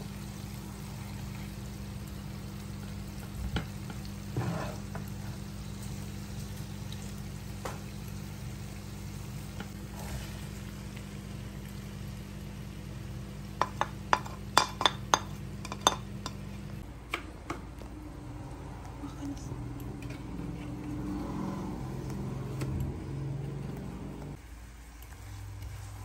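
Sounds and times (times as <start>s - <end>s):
oil frying in a pan: 0.0s - 16.9s, 20.0s - 26.0s.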